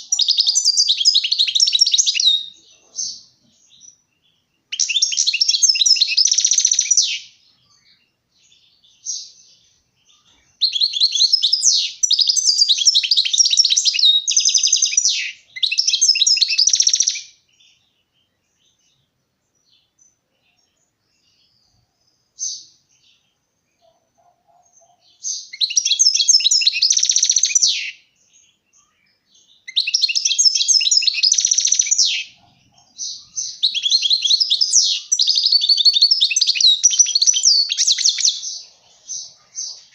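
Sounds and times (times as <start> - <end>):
goldfinch twittering song: 0.0 - 19.0, 24.6 - 39.9.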